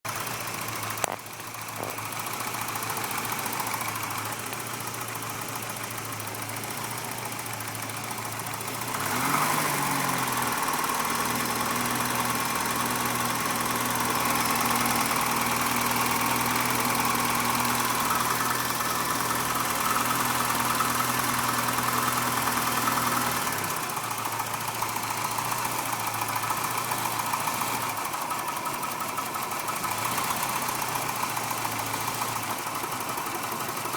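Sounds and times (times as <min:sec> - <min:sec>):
engine idling with knock: 0:00.1 - 0:33.9.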